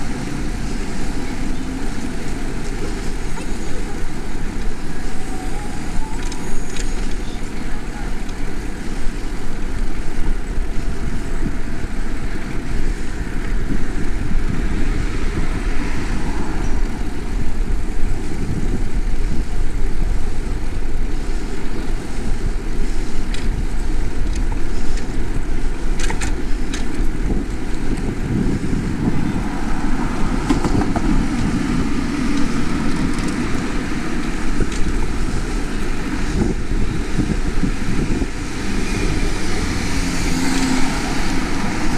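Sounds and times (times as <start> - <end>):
city traffic: 0.0 - 41.9
wind rushing over camera: 0.0 - 41.9.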